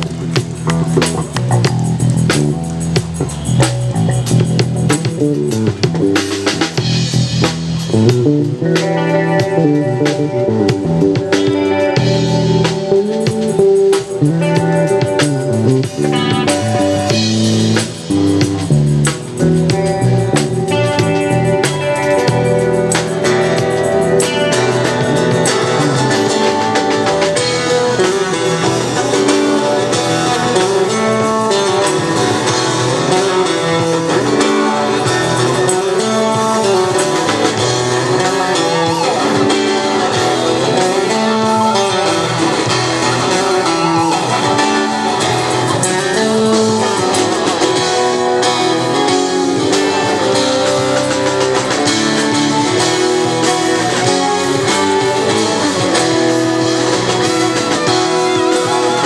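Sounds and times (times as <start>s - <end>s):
guitar melody: 0.0s - 59.0s
live band instrumental music: 0.0s - 59.0s.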